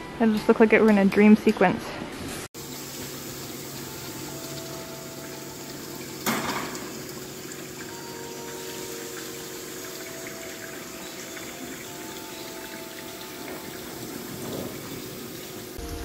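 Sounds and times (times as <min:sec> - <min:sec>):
water running in pond: 0:02.5 - 0:16.0.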